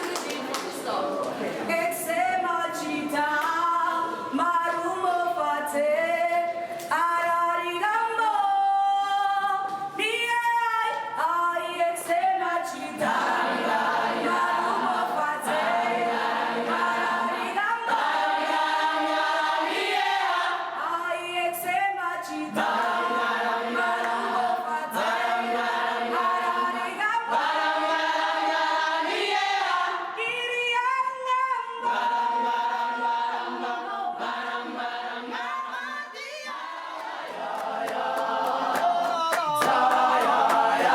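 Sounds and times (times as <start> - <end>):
choir singing a cappella: 0.7 - 8.8, 11.2 - 40.9.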